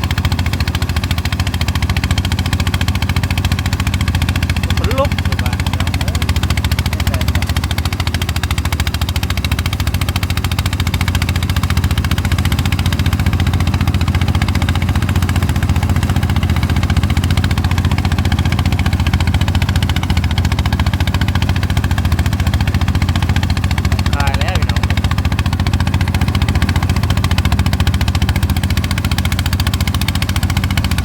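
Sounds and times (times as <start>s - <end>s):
threshing machine engine pulsing: 0.0s - 31.0s.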